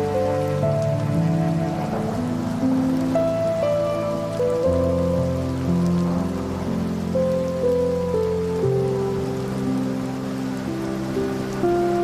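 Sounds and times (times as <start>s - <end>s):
soft ambient music: 0.0s - 12.0s
steady rain falling: 0.0s - 12.0s.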